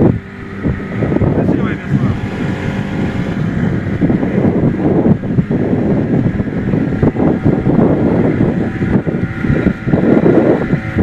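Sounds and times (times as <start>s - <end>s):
boat engine running: 0.0s - 11.0s
hull moving through water: 0.0s - 11.0s
wind buffeting microphone: 0.0s - 11.0s.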